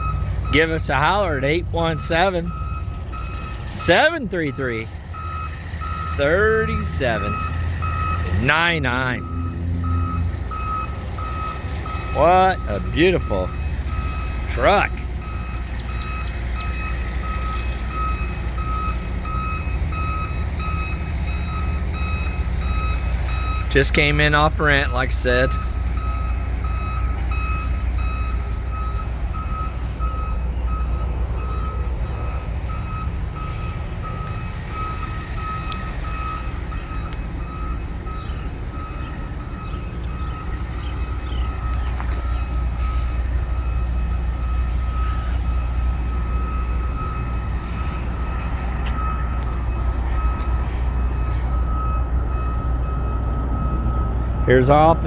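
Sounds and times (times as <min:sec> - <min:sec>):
diesel engine running: 0:00.0 - 0:55.0
reversing alarm beeping: 0:00.0 - 0:55.0.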